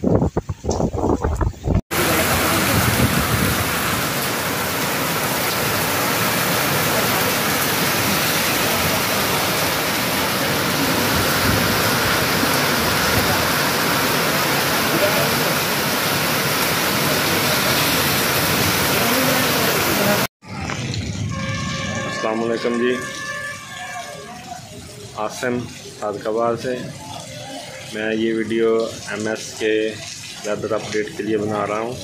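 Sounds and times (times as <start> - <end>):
heavy rain pouring on road: 1.9 - 32.0.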